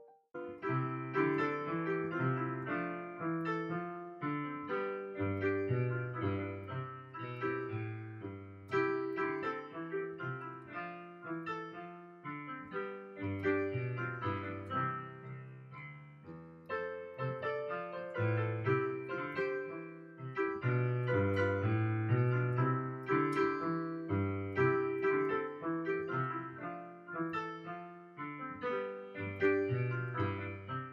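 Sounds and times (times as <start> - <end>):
piano music: 0.0 - 30.9.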